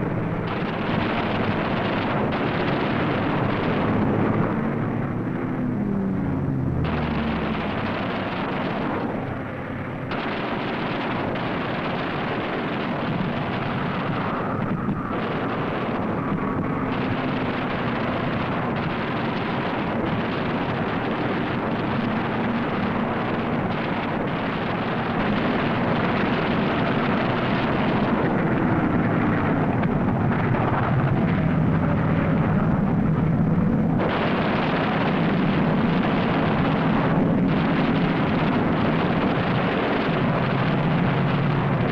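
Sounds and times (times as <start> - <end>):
piston aircraft engines roaring: 0.0 - 41.9.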